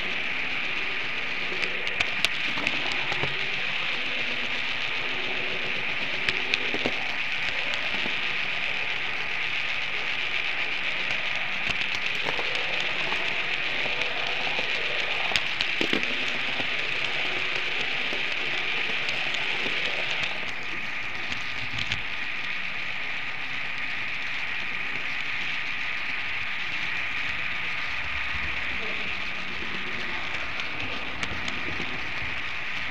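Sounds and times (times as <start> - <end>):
model train running on track: 0.0 - 32.9.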